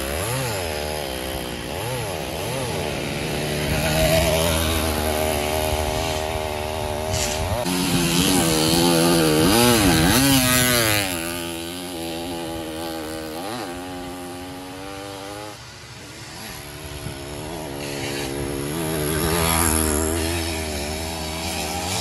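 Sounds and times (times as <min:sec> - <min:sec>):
two-stroke engines revving: 0:00.0 - 0:22.0.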